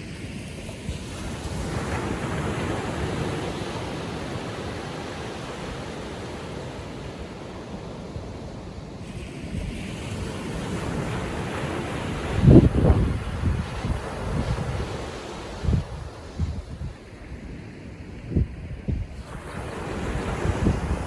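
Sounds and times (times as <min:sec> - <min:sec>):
small waves washing up beach: 0:00.0 - 0:21.0.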